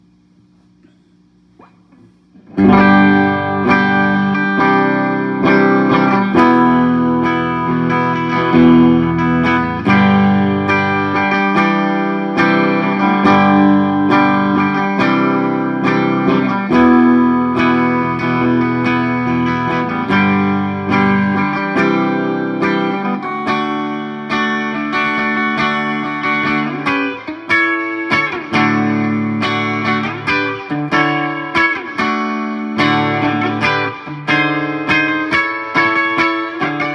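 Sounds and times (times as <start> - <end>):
electric guitar strummed chords: 0.8 - 36.9.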